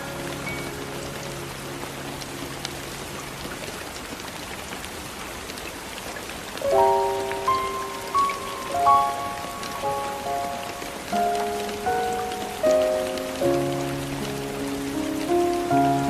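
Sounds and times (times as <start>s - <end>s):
soft music notes: 0.0s - 3.7s, 6.6s - 16.0s
steady rain falling: 0.0s - 16.0s.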